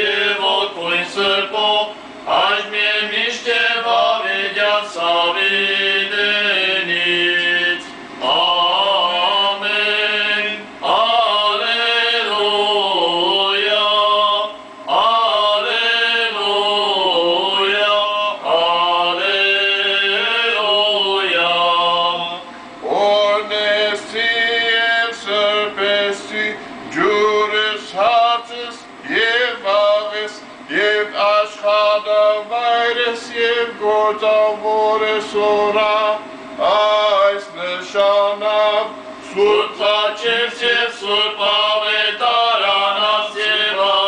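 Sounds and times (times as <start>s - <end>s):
priest chanting a hymn: 0.0s - 44.0s.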